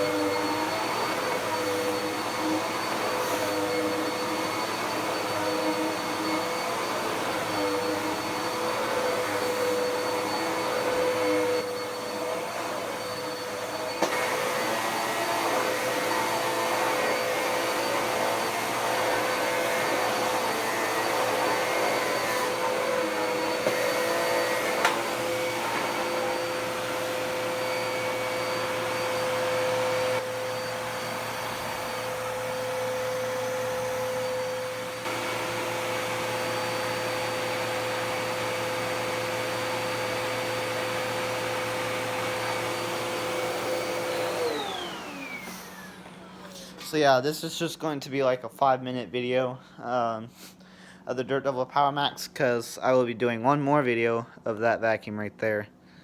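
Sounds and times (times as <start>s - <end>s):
vacuum cleaner running on carpet: 0.0s - 46.9s.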